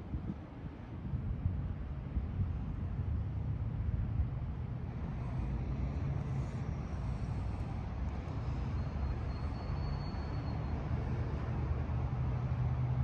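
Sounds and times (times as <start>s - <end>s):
low outdoor rumble: 1.0s - 13.0s.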